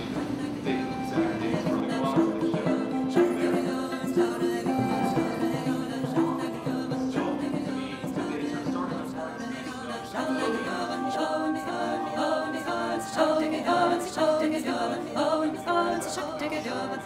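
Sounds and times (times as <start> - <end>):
unaccompanied choir singing: 0.0 - 17.0.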